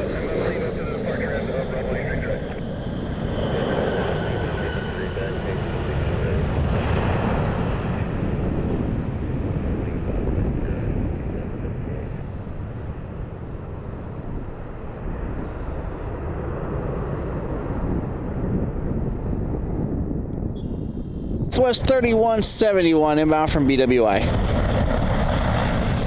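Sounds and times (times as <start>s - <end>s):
aircraft engine: 0.0s - 26.0s
wind buffeting microphone: 0.0s - 26.0s.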